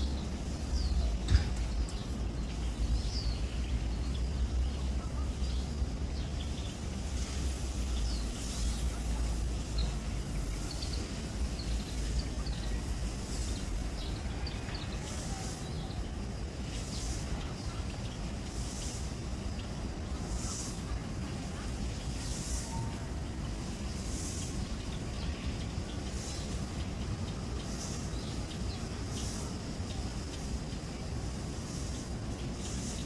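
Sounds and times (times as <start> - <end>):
birds chirping: 0.0 - 33.0
high hiss: 0.0 - 33.0
steady low rumble: 0.0 - 33.0.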